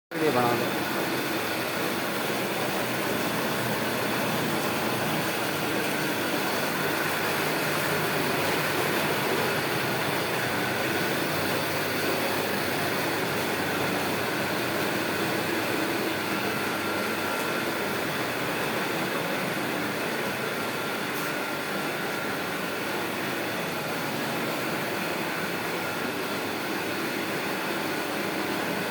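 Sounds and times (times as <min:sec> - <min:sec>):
refrigeration compressor humming: 0:00.1 - 0:28.9.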